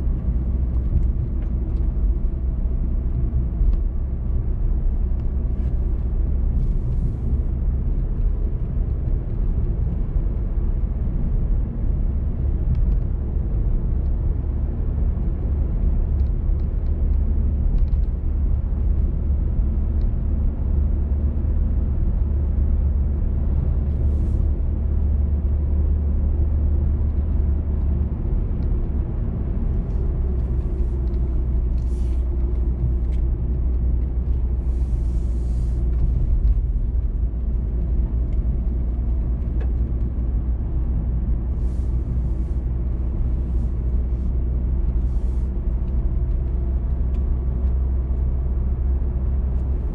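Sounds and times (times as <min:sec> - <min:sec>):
road and engine rumble: 0:00.0 - 0:49.9.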